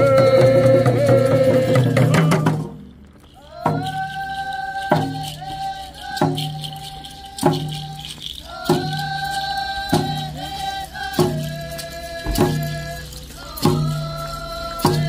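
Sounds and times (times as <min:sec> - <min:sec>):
drum beaten steadily: 0:00.0 - 0:15.0
voices singing long notes: 0:00.0 - 0:15.0.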